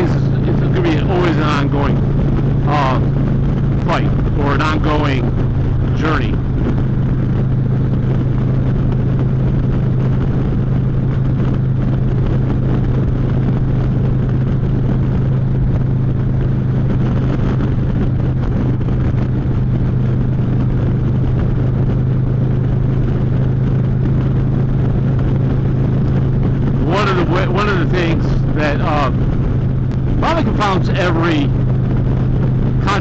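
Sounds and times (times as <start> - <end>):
motorcycle engine droning: 0.0 - 33.0.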